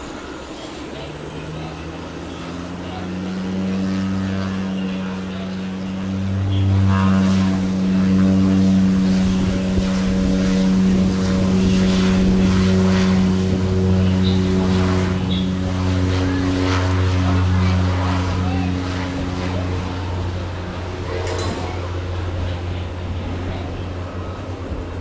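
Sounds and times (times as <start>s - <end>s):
aircraft engines droning: 0.0s - 25.0s.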